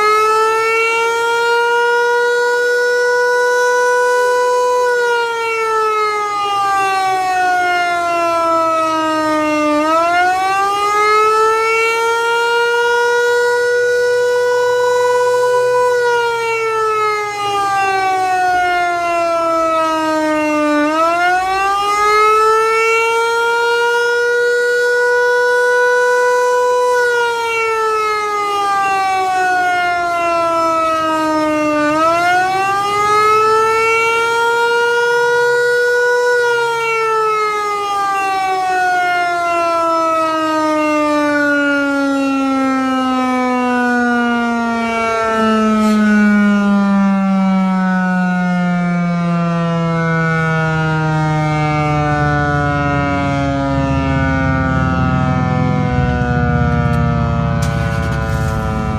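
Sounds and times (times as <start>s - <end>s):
electronic tornado siren wailing: 0.0s - 58.9s.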